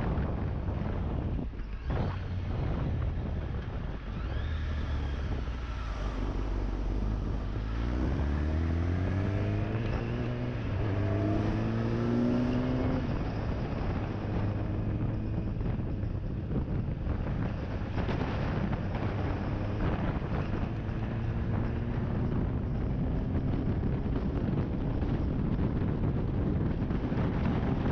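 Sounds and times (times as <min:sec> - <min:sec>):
motorcycle engine accelerating: 0:00.0 - 0:27.9
wind on microphone: 0:00.0 - 0:27.9.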